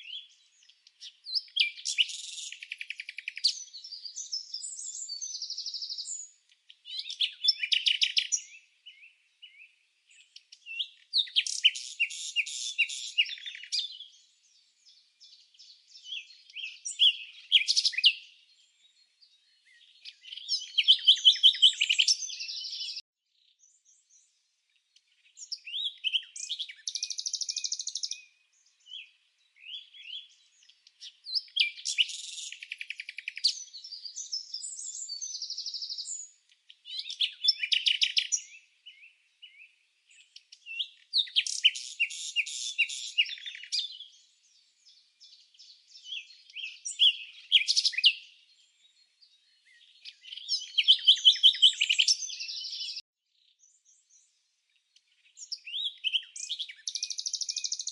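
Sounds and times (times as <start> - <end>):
songbird chirping and trilling: 0.0 - 57.9.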